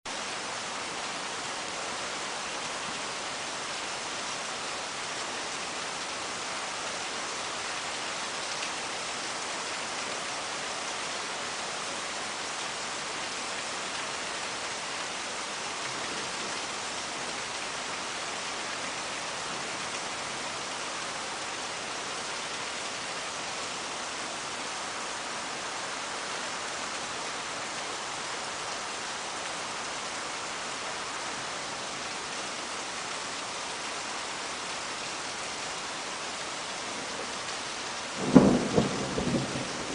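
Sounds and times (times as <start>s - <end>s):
heavy rain hissing: 0.1s - 39.9s.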